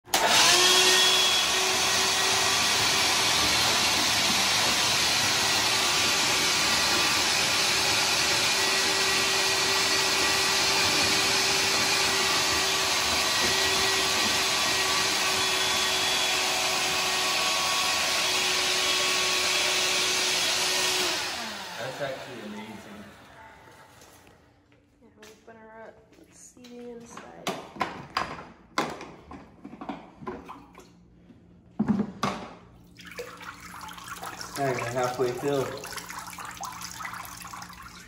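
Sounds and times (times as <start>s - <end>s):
shop vac running: 0.0s - 24.6s, 31.2s - 38.0s.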